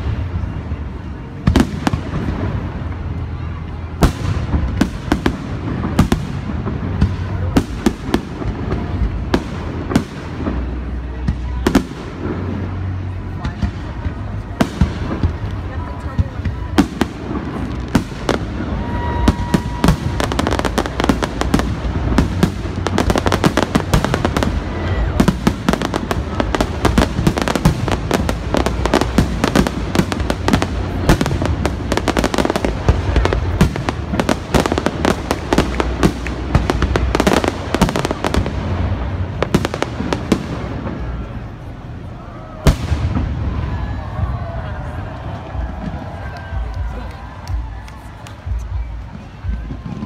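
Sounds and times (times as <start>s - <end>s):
fireworks bursting and crackling: 0.0s - 50.0s.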